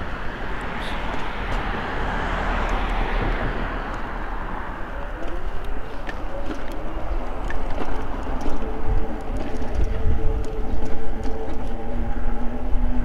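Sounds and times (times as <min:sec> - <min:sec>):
wind rumble on microphone: 0:00.0 - 0:13.0
tyres ticking on pavement: 0:00.1 - 0:11.9.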